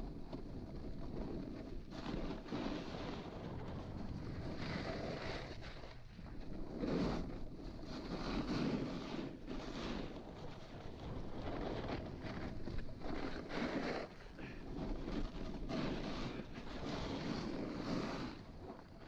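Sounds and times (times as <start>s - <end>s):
snowboard scraping over snow: 0.0s - 19.0s.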